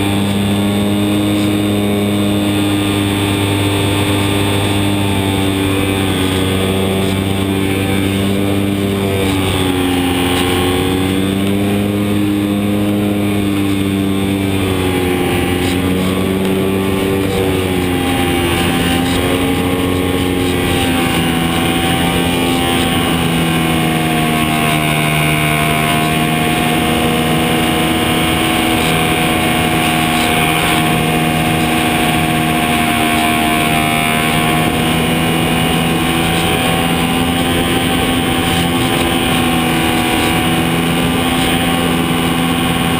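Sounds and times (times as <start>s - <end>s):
model airplane electric motor: 0.0s - 42.9s.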